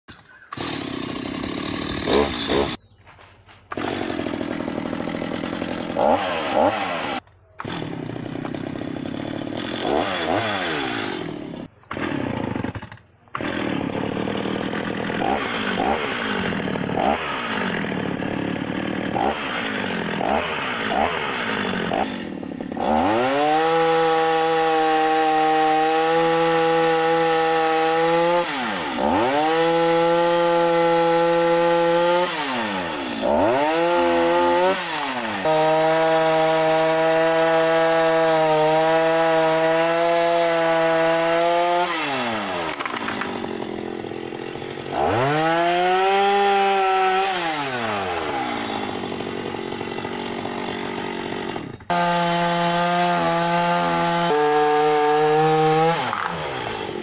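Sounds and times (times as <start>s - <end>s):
chainsaw sawing through trunk: 0.2s - 2.8s, 3.7s - 57.0s.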